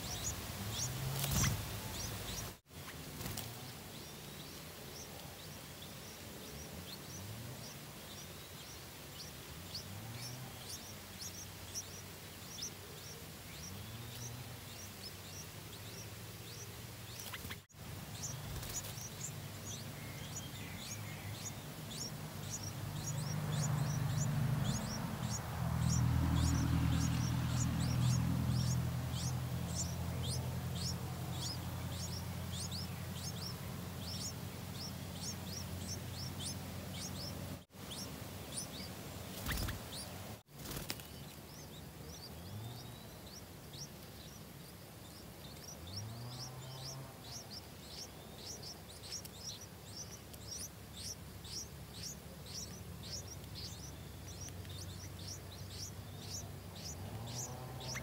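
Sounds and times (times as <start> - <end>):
nestlings chirping: 0.0 - 58.0.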